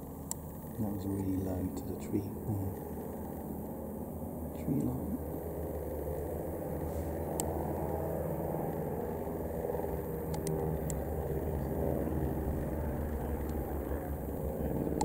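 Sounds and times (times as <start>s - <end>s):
biplane piston engines droning: 0.0s - 15.0s.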